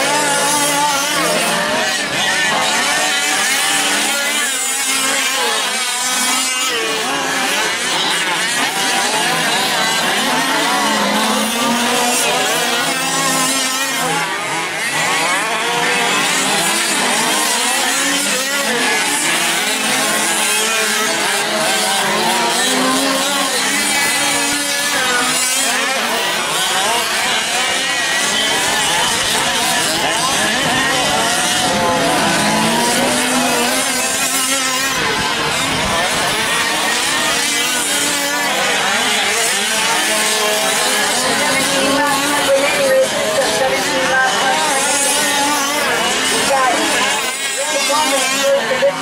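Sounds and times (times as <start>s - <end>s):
small two-stroke engines revving: 0.0s - 49.0s.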